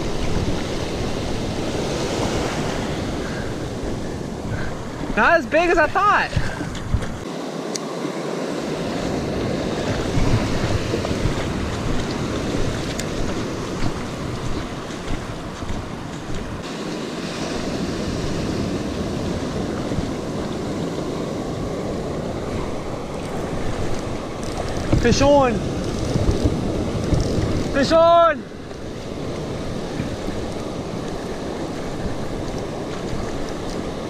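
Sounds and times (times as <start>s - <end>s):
wind buffeting microphone: 0.0s - 7.3s, 8.7s - 34.0s
ocean surf breaking on sand: 0.0s - 34.0s.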